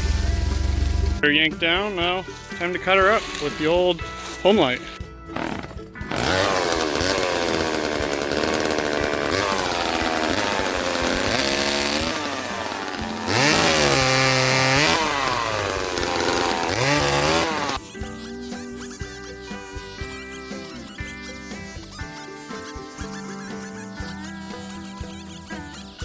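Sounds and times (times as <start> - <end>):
chainsaw cutting wood: 0.0 - 22.7.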